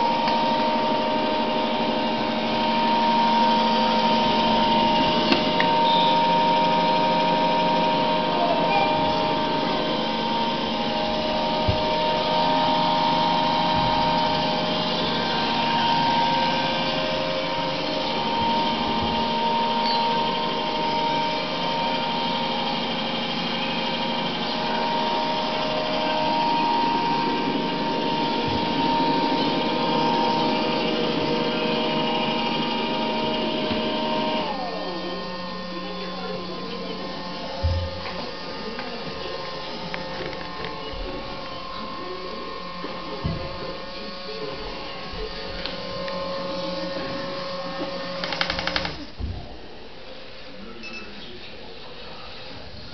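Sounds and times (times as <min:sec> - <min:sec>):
robot vacuum cleaner running: 0:00.0 - 0:52.9.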